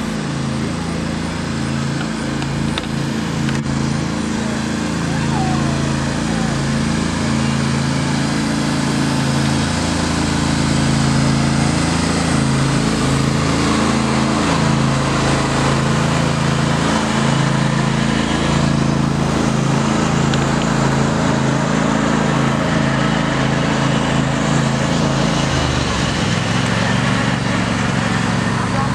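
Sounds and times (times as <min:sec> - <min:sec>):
lawn tractor engine running: 0:00.0 - 0:28.9.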